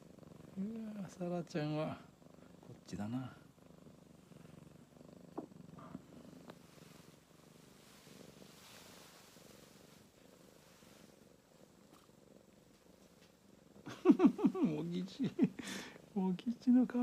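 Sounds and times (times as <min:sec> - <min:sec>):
cats purring: 0:00.0 - 0:17.0.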